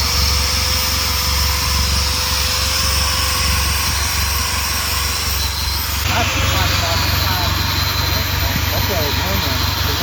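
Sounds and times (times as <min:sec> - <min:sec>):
machine whine: 0:00.0 - 0:10.0.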